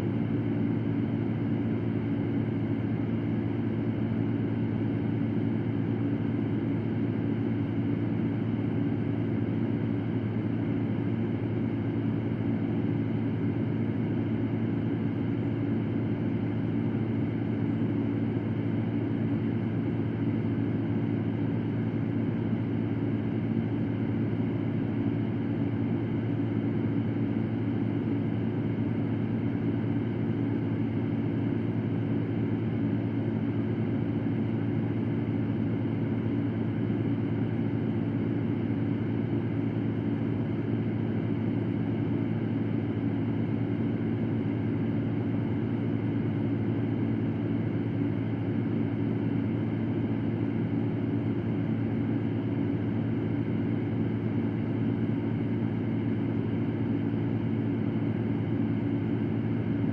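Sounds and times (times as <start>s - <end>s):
electric fan whooshing hum: 0.0s - 59.9s.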